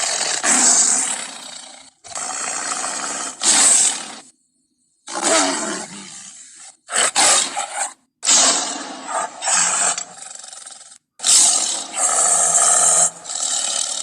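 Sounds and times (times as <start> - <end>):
big cat roars and snarls: 0.0 - 4.3, 5.1 - 14.0.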